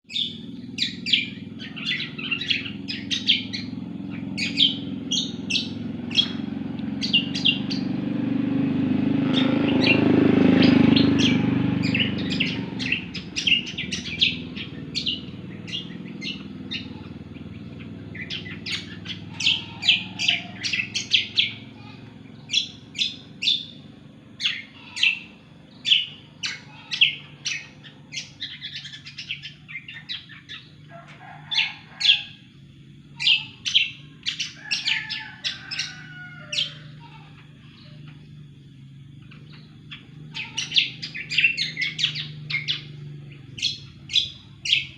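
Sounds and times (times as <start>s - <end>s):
songbird chirping and trilling: 0.0s - 44.9s.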